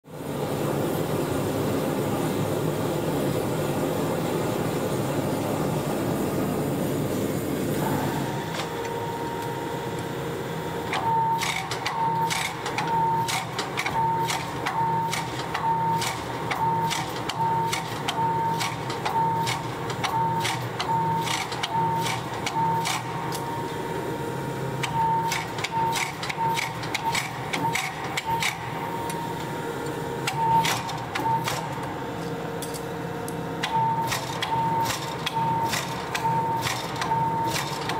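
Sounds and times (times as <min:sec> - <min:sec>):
gas forge burner roaring: 0:00.0 - 0:37.9.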